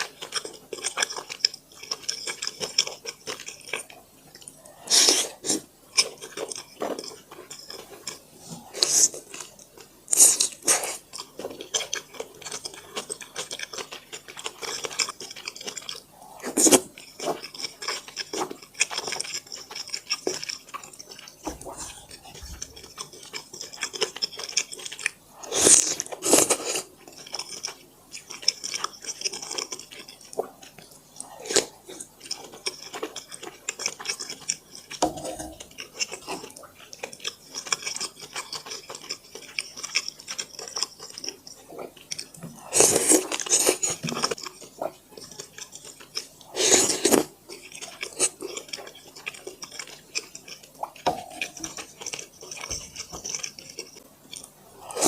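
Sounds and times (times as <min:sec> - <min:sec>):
chewing and eating mouth sounds: 0:00.0 - 0:55.0.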